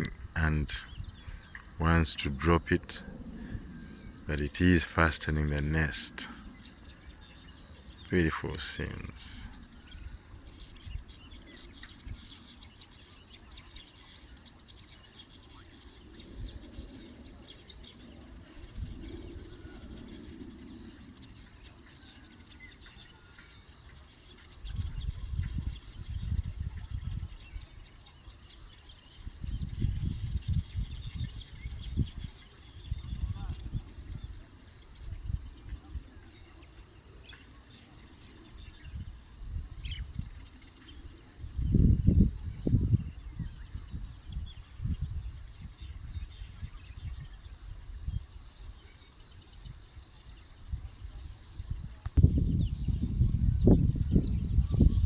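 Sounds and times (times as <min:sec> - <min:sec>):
pulsing insect trill: 0:00.0 - 0:55.0.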